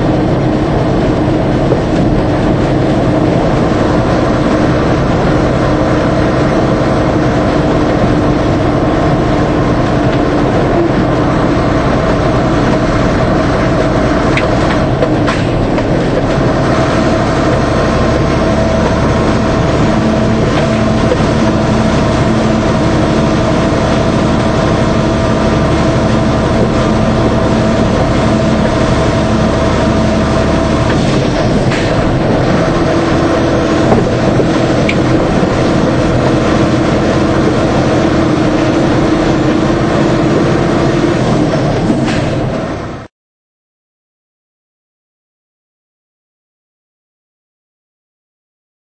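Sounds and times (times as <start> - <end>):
road and tyre noise: 0.0 - 43.1
truck diesel engine drone: 0.0 - 43.1.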